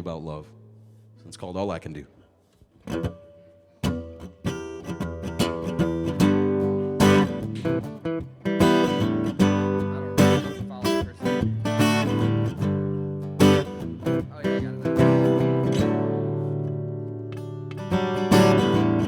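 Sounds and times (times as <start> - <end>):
acoustic guitar plucked notes: 2.8 - 19.0
acoustic guitar strummed chords: 2.9 - 19.0.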